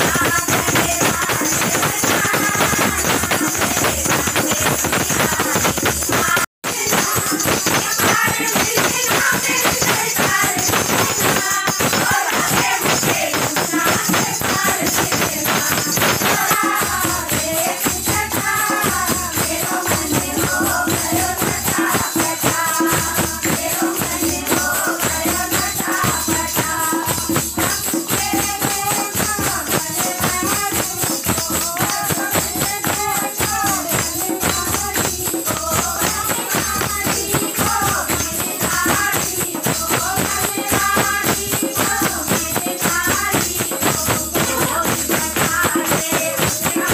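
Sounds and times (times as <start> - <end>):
people singing: 0.0 - 46.9
steady drum beat: 0.0 - 46.9
tambourine jingling: 0.0 - 46.9.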